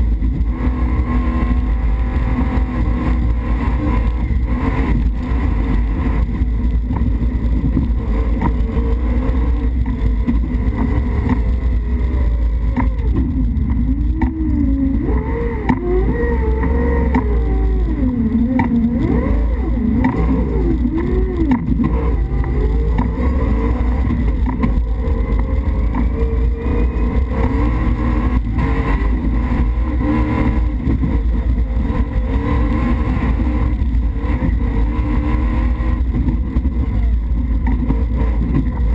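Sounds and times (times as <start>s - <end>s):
car engine revving: 0.0s - 38.9s
heavy low rumble: 0.0s - 38.9s.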